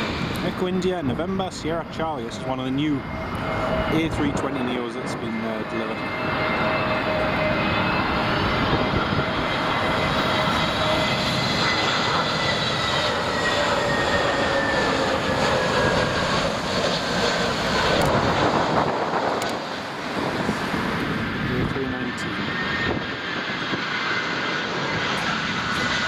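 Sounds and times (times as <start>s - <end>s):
jet airliner passing by: 0.0s - 26.0s.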